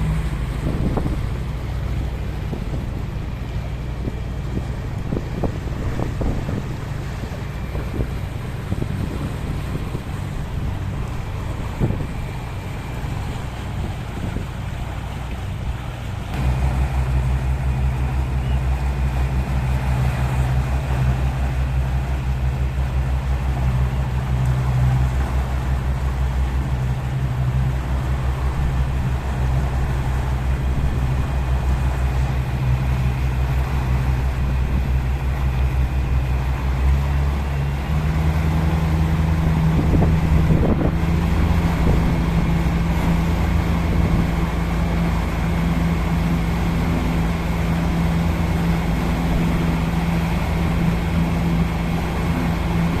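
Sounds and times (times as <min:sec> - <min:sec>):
sea wash: 0:00.0 - 0:53.0
ship engine droning: 0:00.0 - 0:53.0.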